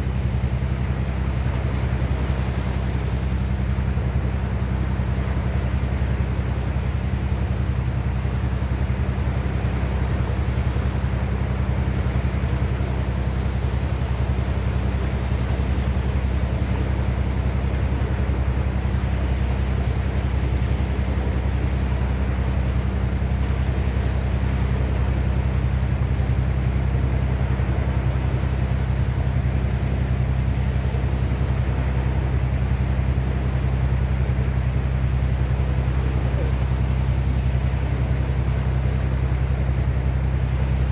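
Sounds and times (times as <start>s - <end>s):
low engine drone: 0.0s - 40.9s
rushing water: 0.0s - 40.9s.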